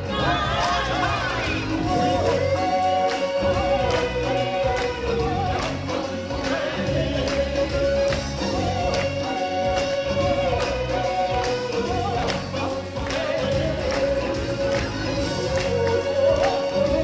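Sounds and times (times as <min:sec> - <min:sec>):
band backing music: 0:00.0 - 0:17.0
choir singing held notes: 0:00.0 - 0:17.0
steady drum beat: 0:00.0 - 0:17.0.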